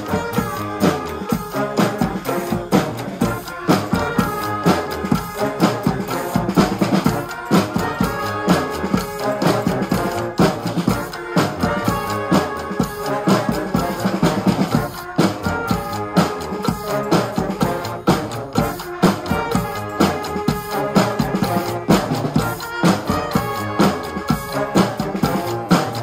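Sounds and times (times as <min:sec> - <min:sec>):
marching snare and bass drums: 0:00.0 - 0:26.0
trombones and sousaphone playing: 0:00.0 - 0:26.0.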